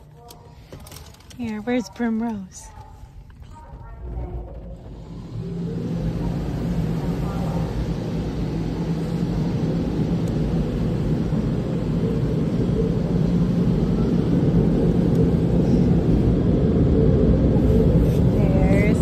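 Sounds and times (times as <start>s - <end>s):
car wash machinery roaring: 0.0s - 19.0s.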